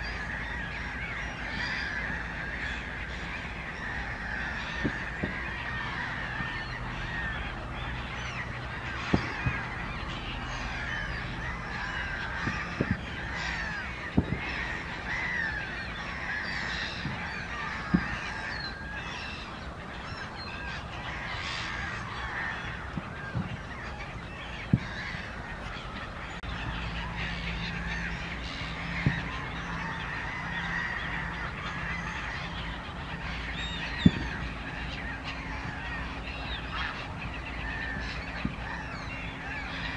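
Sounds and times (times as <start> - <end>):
waterfowl honking: 0.0 - 39.9.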